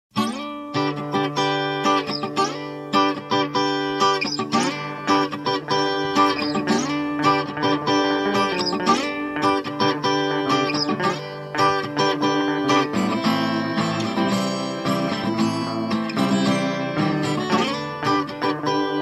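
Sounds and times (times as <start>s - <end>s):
guitar strumming chords: 0.1s - 19.0s.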